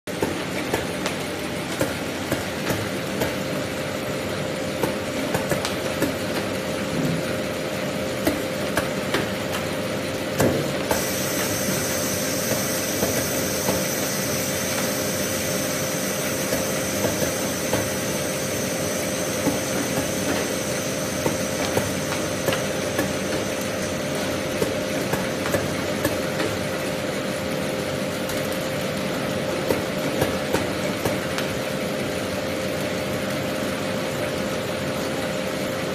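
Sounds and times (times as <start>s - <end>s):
clacks and knocks of conveyor: 0.1s - 15.2s, 15.9s - 18.4s, 19.3s - 27.0s, 28.2s - 31.7s
machine hum: 0.1s - 33.7s.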